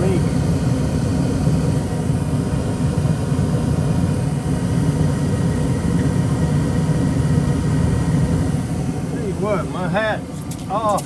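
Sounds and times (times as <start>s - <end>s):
gas furnace burners rumbling: 0.0s - 11.0s.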